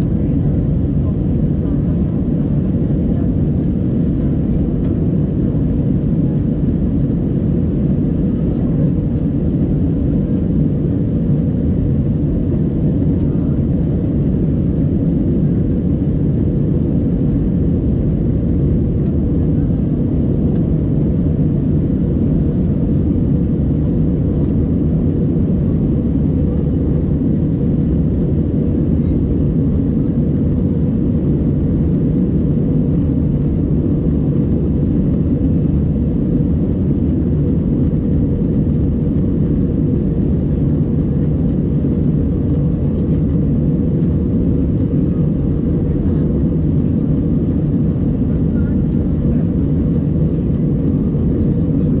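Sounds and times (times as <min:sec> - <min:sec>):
airplane cabin drone: 0:00.0 - 0:52.0.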